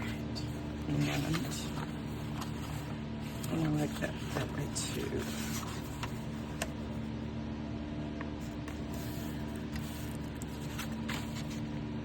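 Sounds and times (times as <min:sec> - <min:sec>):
low electrical hum of appliance: 0:00.0 - 0:12.0.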